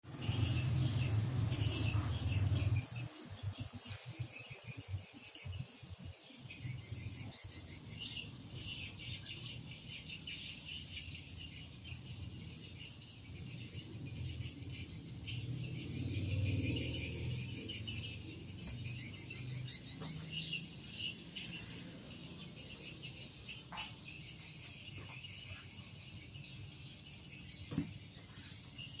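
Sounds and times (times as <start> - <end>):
bird chirping: 0.1 - 29.0.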